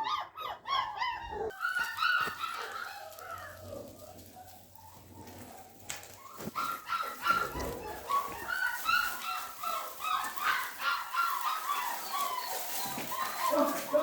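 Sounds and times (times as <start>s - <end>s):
puppies whimpering and yipping: 0.0s - 14.0s.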